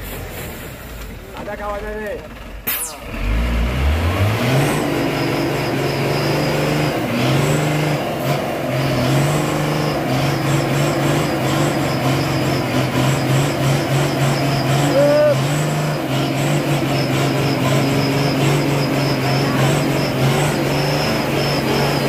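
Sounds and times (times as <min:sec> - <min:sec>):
truck diesel engine revving: 0:02.2 - 0:22.0.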